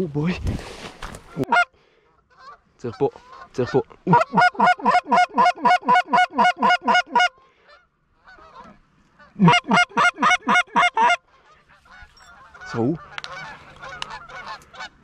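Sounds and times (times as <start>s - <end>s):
geese honking: 1.3s - 1.7s, 2.3s - 15.0s
distant chorus of geese calling: 1.4s - 15.0s.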